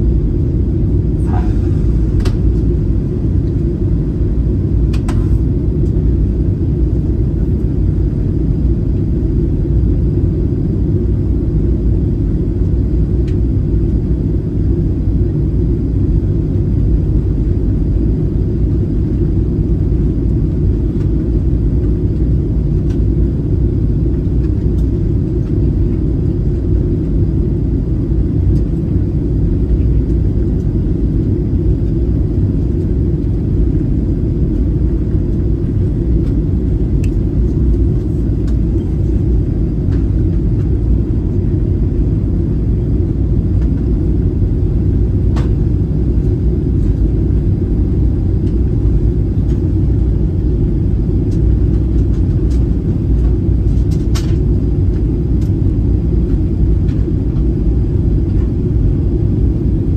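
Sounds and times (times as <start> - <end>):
airplane cabin roar: 0.0 - 59.9.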